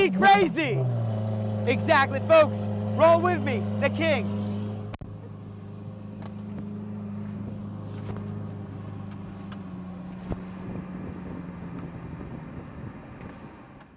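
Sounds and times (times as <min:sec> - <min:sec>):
vehicle engine droning: 0:00.0 - 0:13.9.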